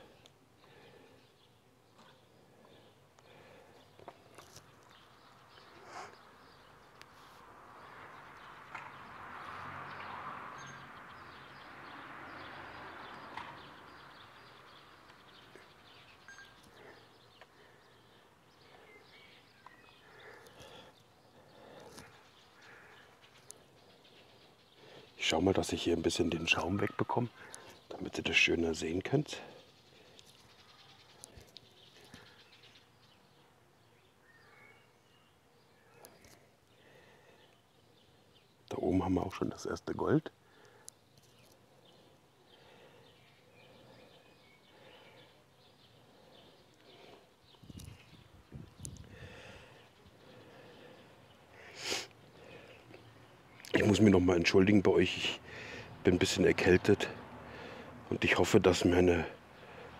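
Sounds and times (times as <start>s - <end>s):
faint outdoor hiss: 0.0s - 59.9s.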